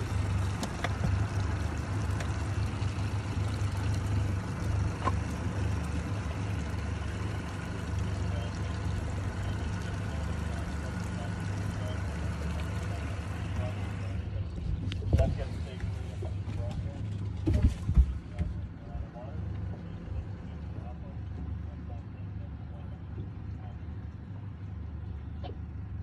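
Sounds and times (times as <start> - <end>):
outboard engine idling: 0.0 - 26.0
water lapping against hull: 0.0 - 26.0.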